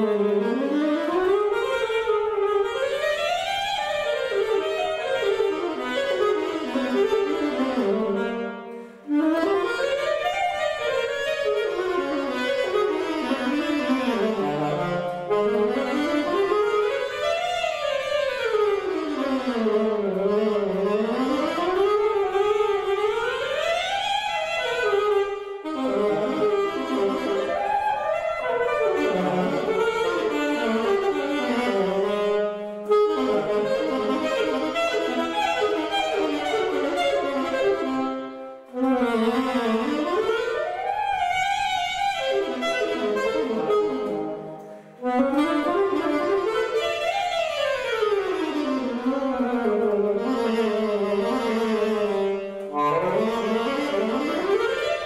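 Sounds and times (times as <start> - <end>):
solo saxophone playing: 0.0 - 55.0.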